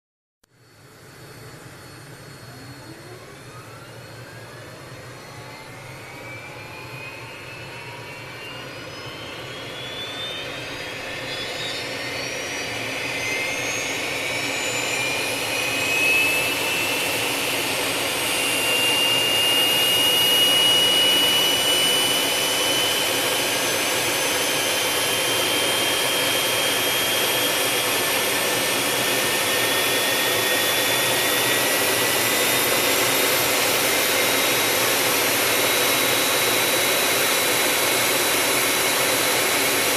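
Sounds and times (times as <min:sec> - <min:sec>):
jet engine turbine whine: 0:00.5 - 0:39.9.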